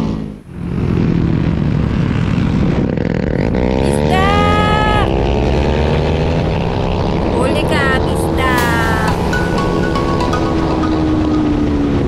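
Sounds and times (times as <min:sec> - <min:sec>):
motorcycle engine running hard: 0:00.0 - 0:12.0.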